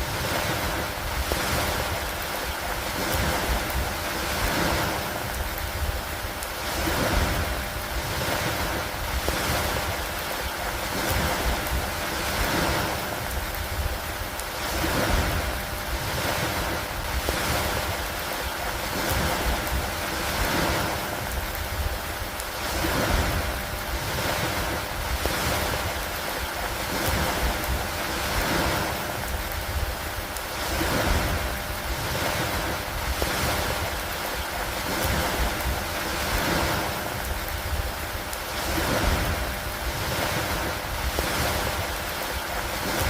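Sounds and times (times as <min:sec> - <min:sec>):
rain over water: 0:00.0 - 0:43.0
wind: 0:00.0 - 0:43.0.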